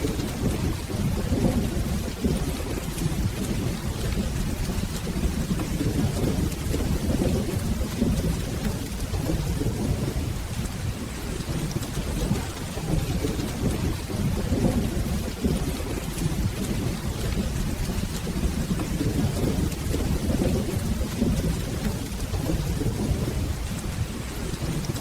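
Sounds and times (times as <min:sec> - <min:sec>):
rolling thunder rumble: 0:00.0 - 0:25.0
steady rain: 0:00.0 - 0:25.0.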